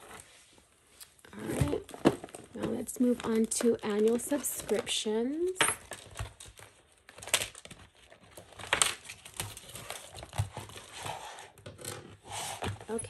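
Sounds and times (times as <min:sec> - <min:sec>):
plastic pages crinkling: 0:00.0 - 0:13.0.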